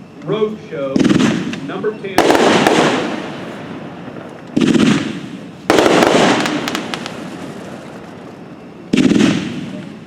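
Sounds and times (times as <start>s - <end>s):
firework bangs: 0.9s - 10.0s
firework crackling: 0.9s - 10.0s.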